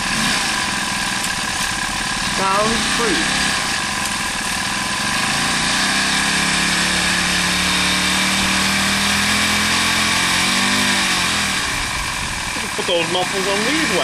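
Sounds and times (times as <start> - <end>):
motorized bicycle engine running: 0.0 - 14.0.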